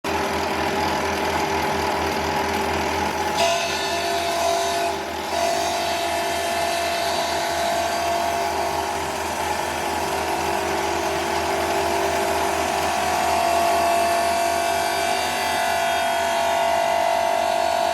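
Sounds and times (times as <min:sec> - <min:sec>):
electric power sander grinding: 0:03.2 - 0:17.9.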